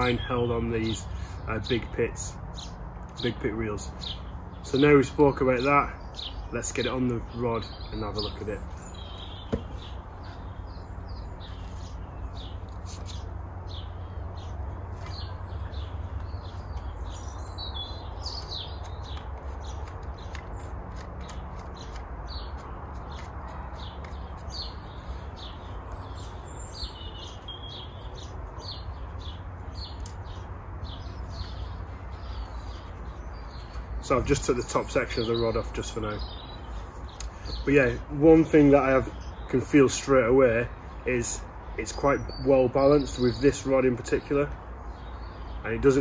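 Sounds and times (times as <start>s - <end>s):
small birds chirping and singing: 0.0s - 46.0s.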